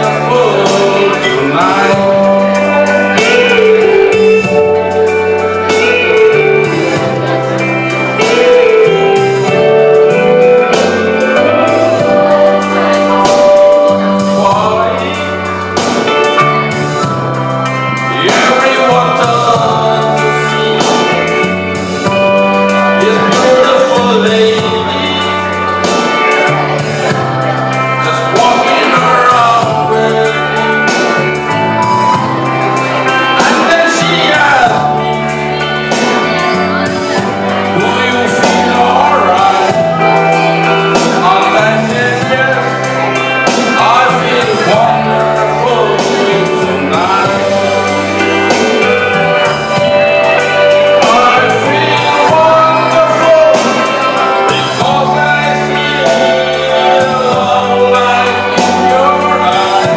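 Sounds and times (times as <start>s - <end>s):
instrumental backing with bass: 0.0s - 59.9s
person singing: 0.0s - 59.9s.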